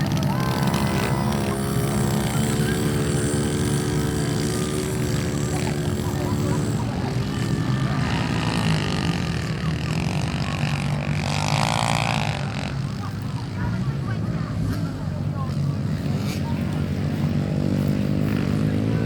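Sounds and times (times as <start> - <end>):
small motorbike engines running: 0.0 - 19.0.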